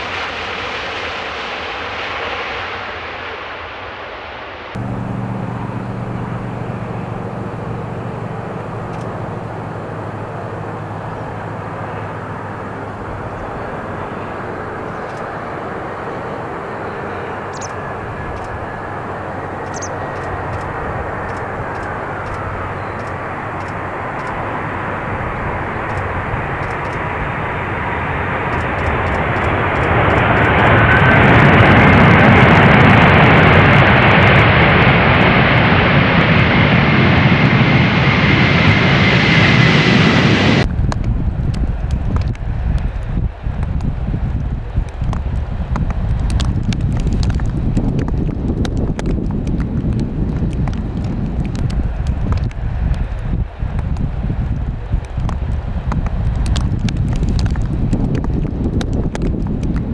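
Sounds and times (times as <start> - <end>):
airplane engine roar: 4.8 - 59.9
faint engine whine: 4.8 - 59.9.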